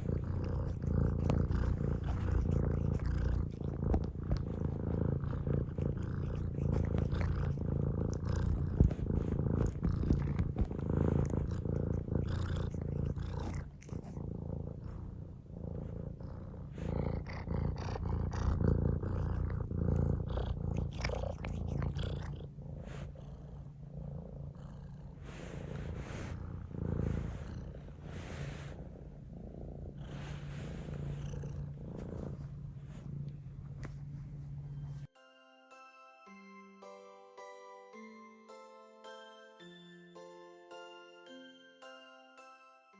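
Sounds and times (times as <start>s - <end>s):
cat purring: 0.0s - 35.1s.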